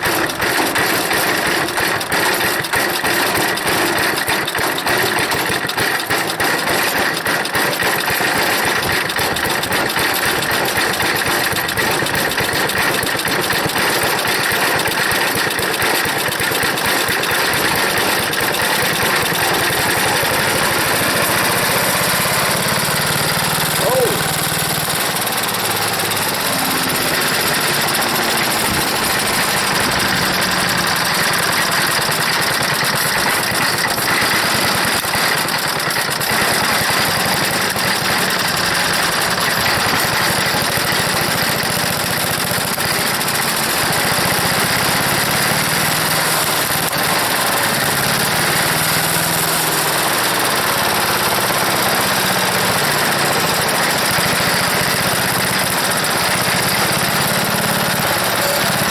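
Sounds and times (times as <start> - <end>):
gasoline engine running loud: 0.0 - 58.9.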